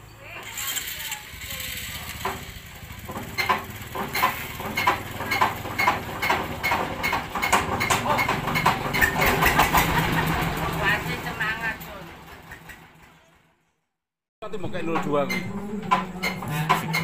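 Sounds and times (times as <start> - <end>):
diesel engine hand-cranked: 0.0 - 13.4, 14.7 - 17.0.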